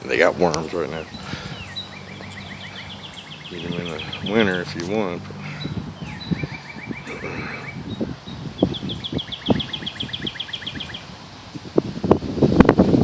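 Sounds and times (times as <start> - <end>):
songbird trilling: 0.0 - 11.2.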